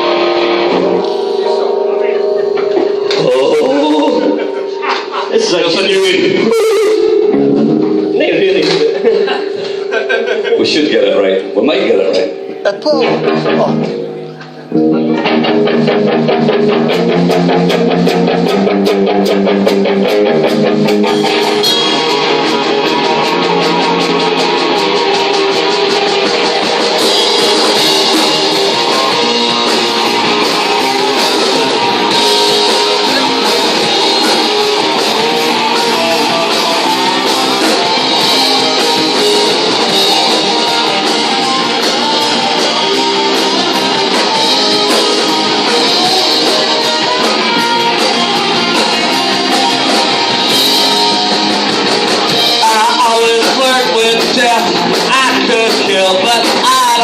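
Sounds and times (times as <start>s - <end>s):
drums: 0.0s - 57.0s
electric guitar: 0.0s - 57.0s.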